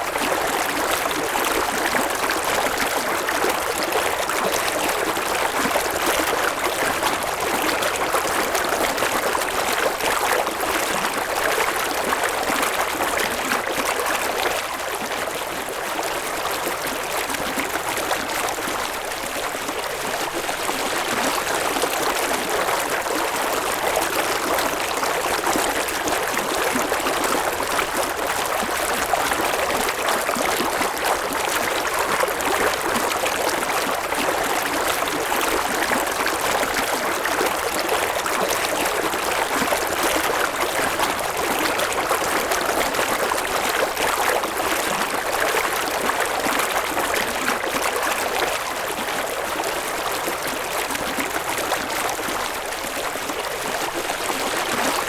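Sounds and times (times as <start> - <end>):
river water babbling over stones: 0.1 - 55.0.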